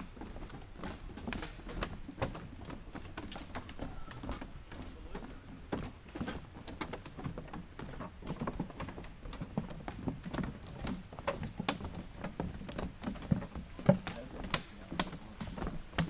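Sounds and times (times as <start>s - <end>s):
footsteps on a trail: 0.0s - 16.0s.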